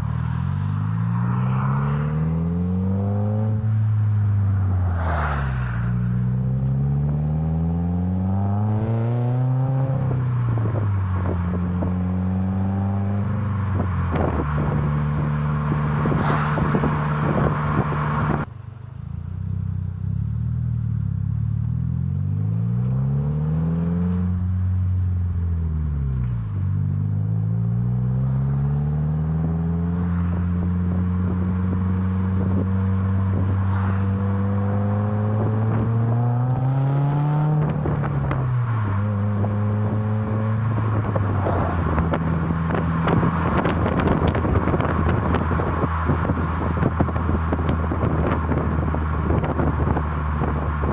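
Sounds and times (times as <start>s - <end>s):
car engine accelerating through gears: 0.0s - 18.5s, 20.0s - 50.9s.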